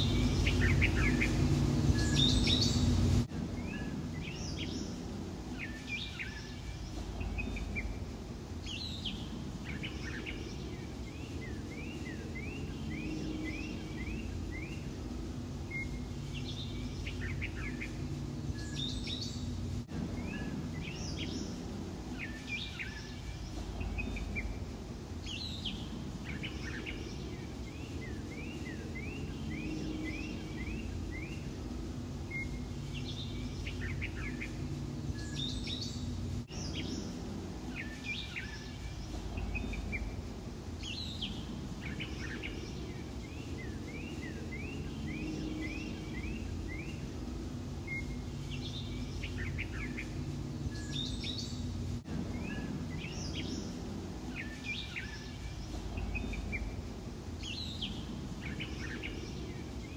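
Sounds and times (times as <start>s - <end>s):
low background hum: 0.0s - 59.9s
small birds chirping: 0.0s - 59.9s.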